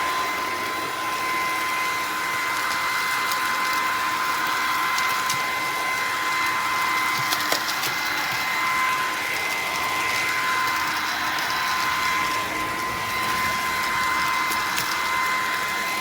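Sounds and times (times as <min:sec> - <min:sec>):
stick vacuum motor whine: 0:00.0 - 0:16.0.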